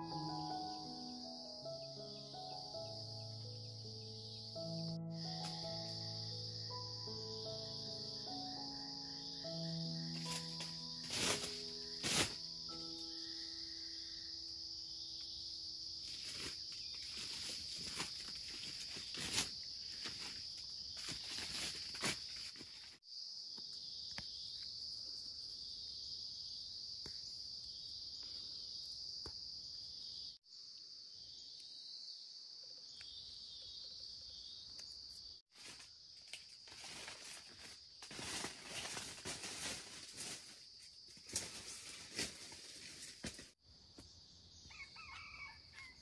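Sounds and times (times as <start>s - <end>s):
insects chorus: 0.0s - 46.0s.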